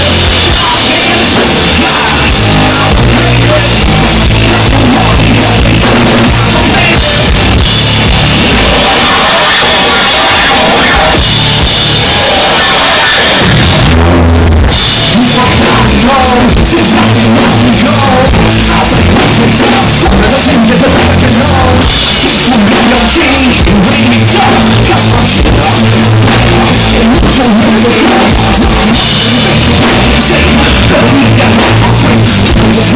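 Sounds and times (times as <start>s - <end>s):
person singing: 0.0s - 11.3s, 15.0s - 32.9s
bass guitar: 0.0s - 32.9s
drum kit: 0.0s - 32.9s
electric guitar: 0.0s - 32.9s.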